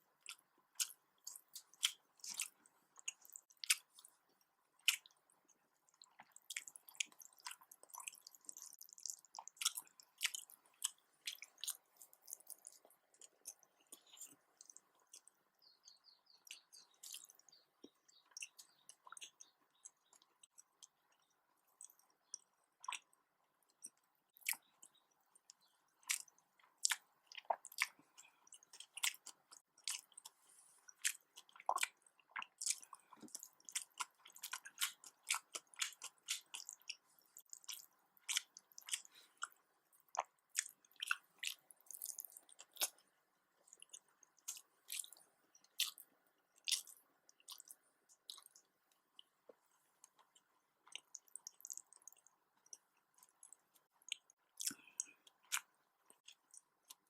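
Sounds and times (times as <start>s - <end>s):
chewing with wet mouth clicks: 0.2s - 57.0s.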